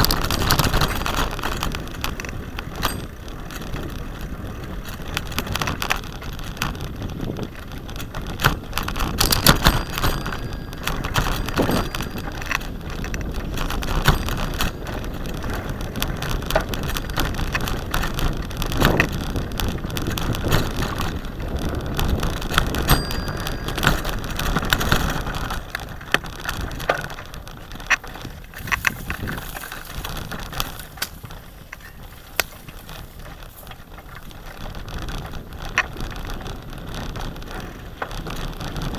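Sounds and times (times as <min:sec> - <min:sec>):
bicycle tyres crunching on sand: 0:00.0 - 0:38.9
bike rattling over bumps: 0:00.0 - 0:38.9.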